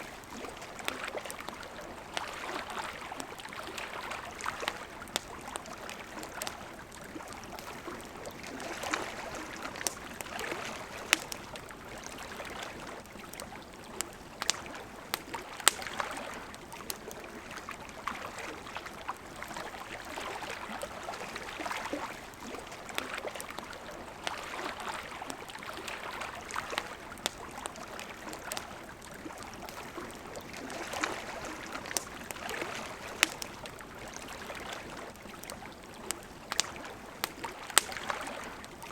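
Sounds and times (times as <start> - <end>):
campfire crackling: 0.0 - 38.9
river water gurgling: 0.0 - 38.9.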